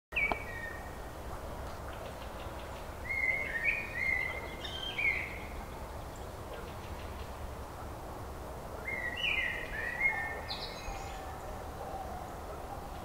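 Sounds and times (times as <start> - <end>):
low background noise: 0.1 - 13.0.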